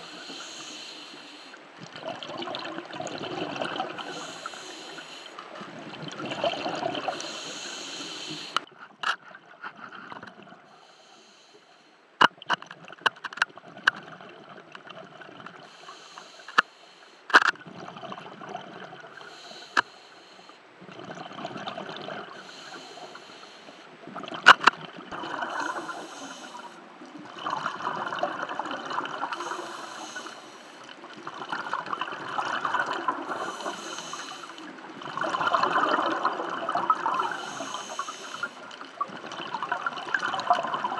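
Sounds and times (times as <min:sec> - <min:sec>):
regulator bubbles underwater: 0:00.0 - 0:08.7, 0:12.3 - 0:15.8, 0:17.6 - 0:19.7, 0:20.8 - 0:40.9.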